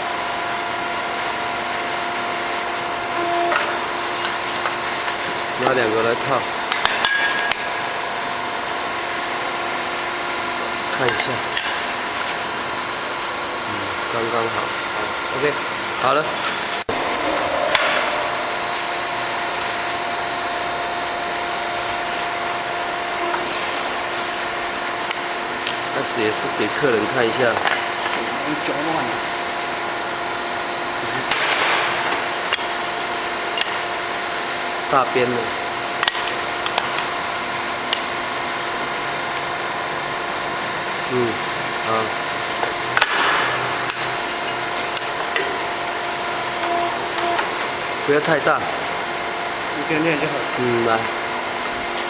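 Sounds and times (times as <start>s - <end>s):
machine humming: 0.0s - 52.0s.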